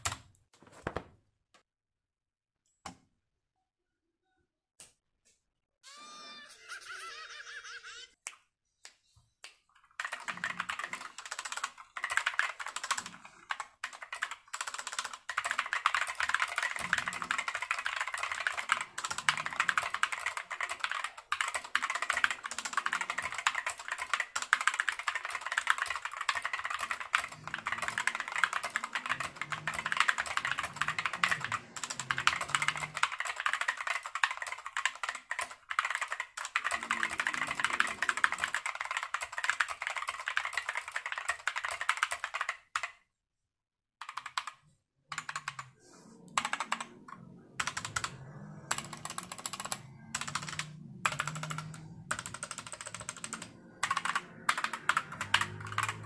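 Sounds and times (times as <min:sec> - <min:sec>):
mechanical keyboard typing: 0:09.9 - 0:43.0, 0:44.0 - 0:56.0.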